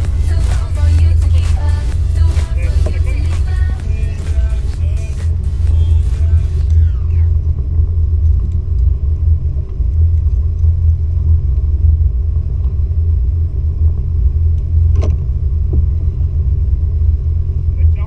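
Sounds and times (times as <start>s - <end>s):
jet ski engine idling: 0.0s - 18.0s.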